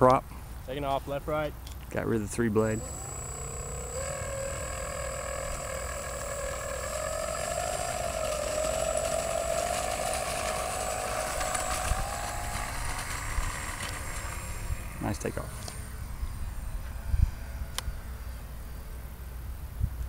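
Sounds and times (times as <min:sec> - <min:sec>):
electric motor and propeller whine: 0:02.0 - 0:20.0.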